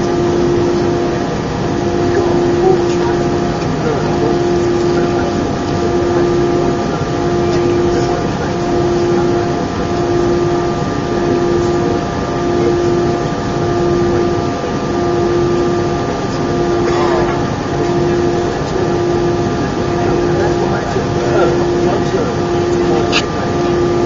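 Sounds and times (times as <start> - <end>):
airliner cabin engine rush: 0.0 - 24.0
pulsing low hum: 0.0 - 24.0.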